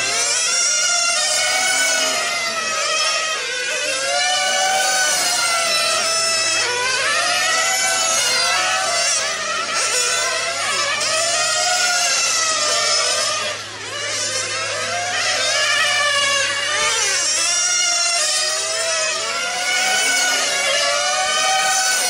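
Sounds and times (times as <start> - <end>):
rc car engines screaming: 0.0 - 22.0.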